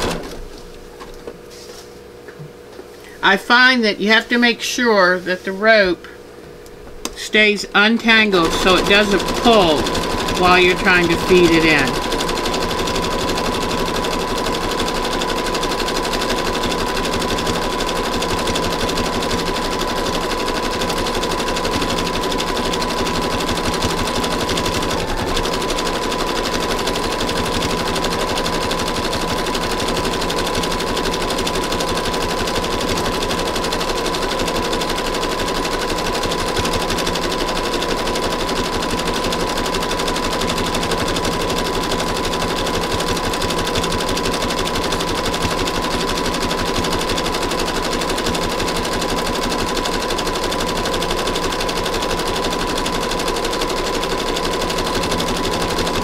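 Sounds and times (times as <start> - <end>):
sewing machine stitching: 0.0 - 0.4, 8.1 - 56.0.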